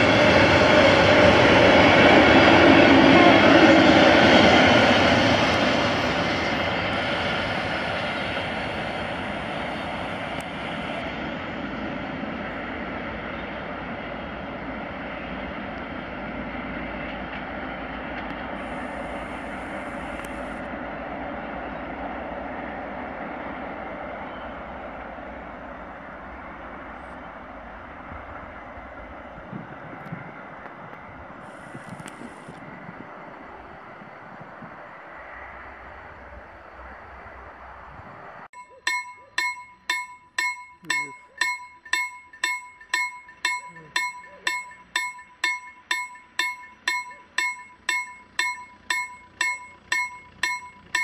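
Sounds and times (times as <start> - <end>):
freight train rolling on track: 0.0 - 51.0.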